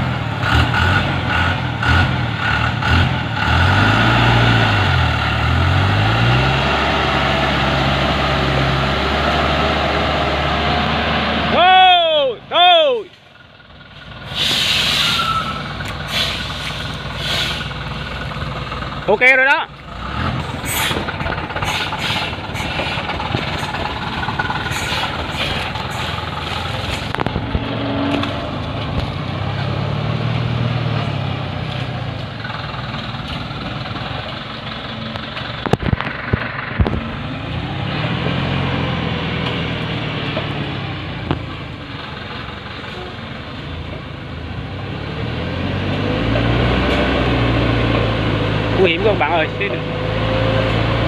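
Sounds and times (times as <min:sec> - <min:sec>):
truck diesel engine under load: 0:00.0 - 0:51.0.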